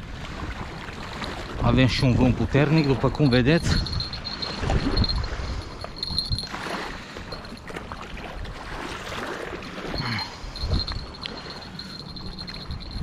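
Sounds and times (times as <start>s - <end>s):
river water flowing: 0.0s - 13.0s
wind buffeting microphone: 0.0s - 13.0s.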